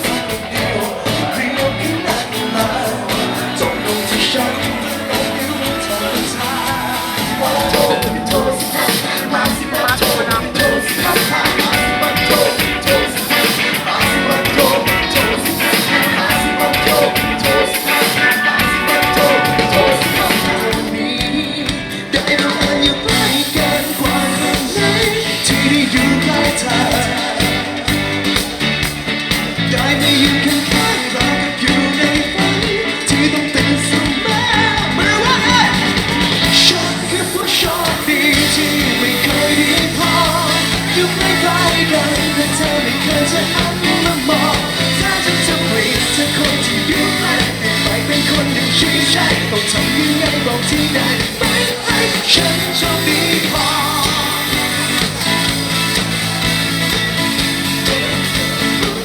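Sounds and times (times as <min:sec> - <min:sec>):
man singing: 0:00.0 - 0:28.4, 0:29.6 - 0:55.5, 0:57.7 - 0:59.0
pop rock band playing: 0:00.0 - 0:59.0.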